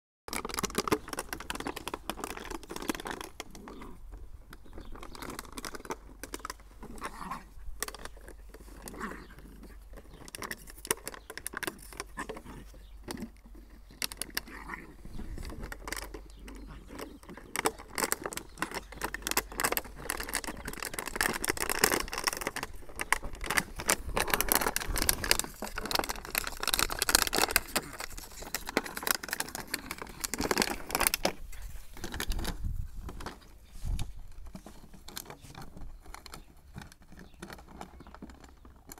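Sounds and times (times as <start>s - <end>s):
plastic bottle crinkling: 0.3s - 38.9s.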